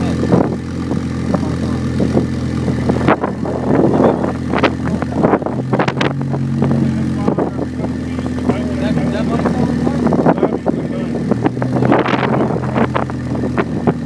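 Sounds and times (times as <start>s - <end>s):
car engine idling: 0.0s - 14.0s
exhaust crackles: 0.0s - 14.0s.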